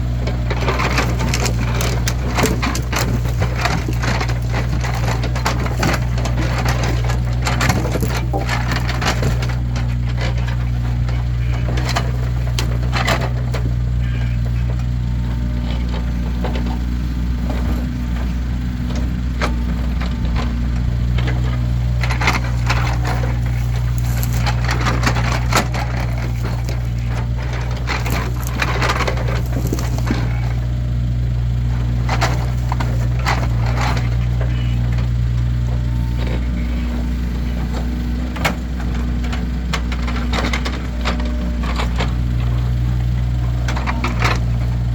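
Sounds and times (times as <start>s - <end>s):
engine idling: 0.0s - 44.9s
firewood logs clattering: 0.0s - 44.9s.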